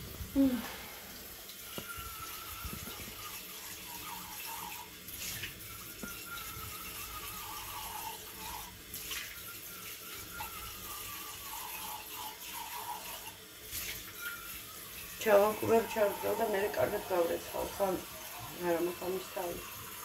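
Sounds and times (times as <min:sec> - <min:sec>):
tap water running into metal pot: 0:00.0 - 0:20.0.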